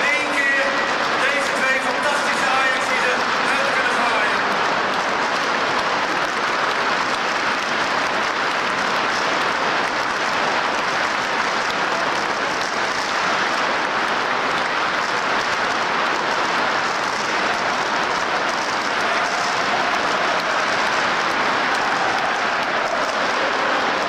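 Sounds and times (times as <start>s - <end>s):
stadium crowd applauding: 0.0s - 24.0s.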